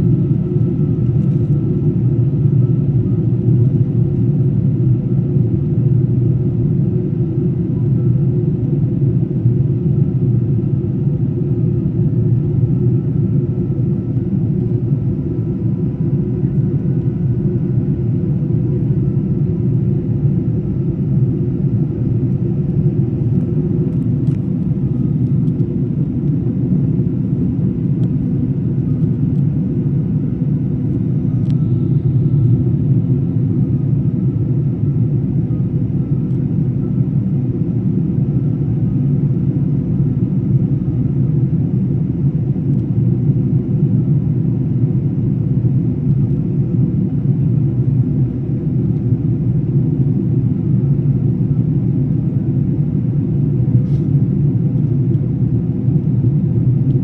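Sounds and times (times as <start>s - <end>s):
airliner in flight rumble: 0.0s - 57.0s.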